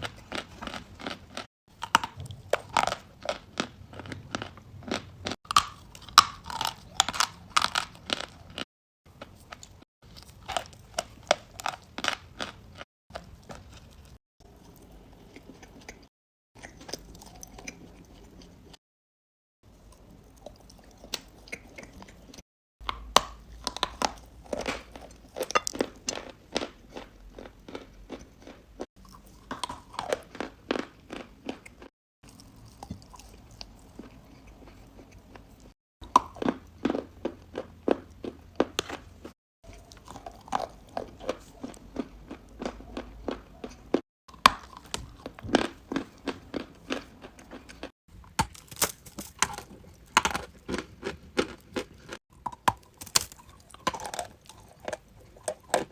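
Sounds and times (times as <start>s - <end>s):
person crunching and chewing: 0.0s - 18.8s, 19.8s - 55.9s.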